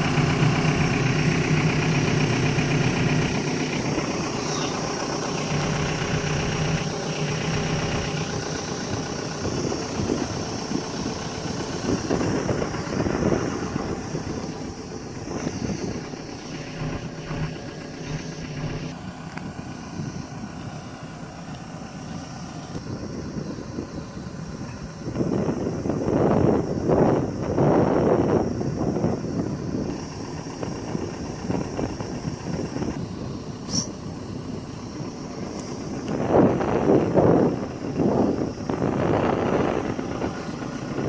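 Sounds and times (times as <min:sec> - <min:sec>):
excavator diesel engine idling: 0:00.0 - 0:41.0.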